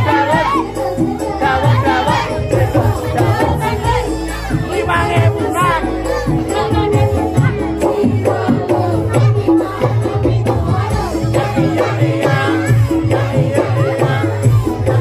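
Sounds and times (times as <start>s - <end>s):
dance music: 0.0s - 15.0s.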